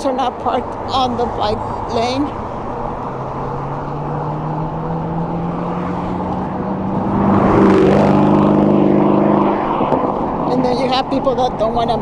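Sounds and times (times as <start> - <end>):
car engine humming: 0.0 - 12.0
road and wind noise: 0.0 - 12.0
vehicle passing: 0.0 - 12.0.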